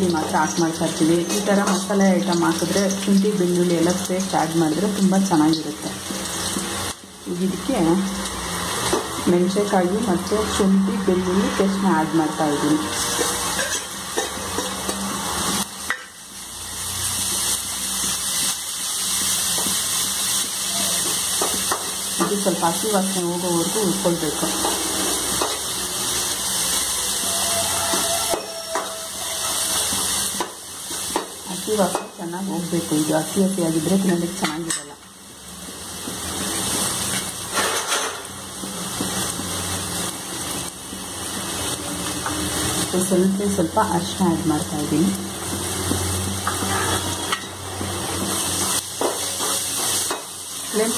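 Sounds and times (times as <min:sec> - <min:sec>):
paste sizzling in hot oil: 0:00.0 - 0:50.9.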